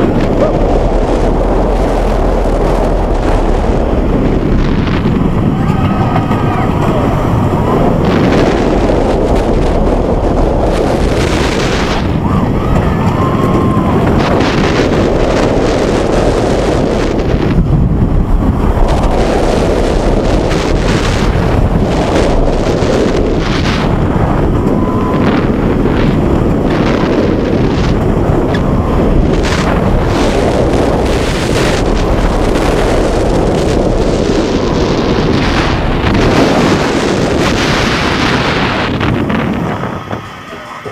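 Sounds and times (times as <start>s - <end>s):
roller coaster rumble: 0.0s - 40.9s
wheels rattling on track: 0.0s - 40.9s
wind buffeting microphone: 0.0s - 40.9s.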